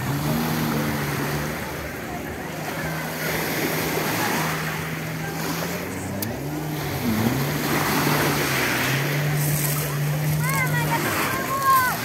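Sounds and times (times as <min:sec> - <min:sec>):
jet ski engine running: 0:00.0 - 0:12.0
surf washing: 0:00.0 - 0:12.0.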